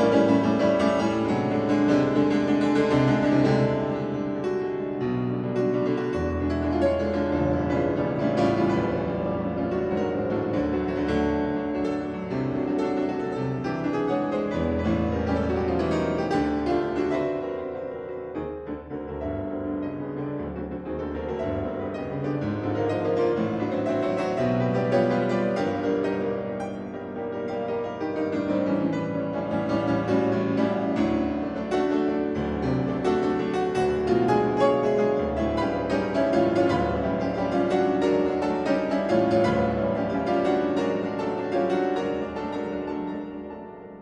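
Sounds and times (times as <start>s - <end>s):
solo classical piano: 0.0s - 44.0s.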